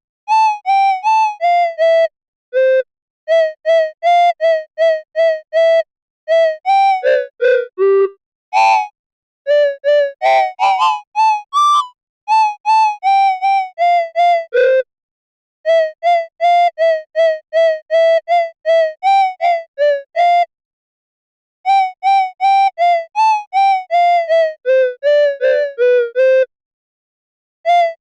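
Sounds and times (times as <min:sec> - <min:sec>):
simple melody of short notes: 0:00.3 - 0:08.9, 0:09.5 - 0:14.9, 0:15.7 - 0:20.5, 0:21.7 - 0:26.5, 0:27.7 - 0:28.0.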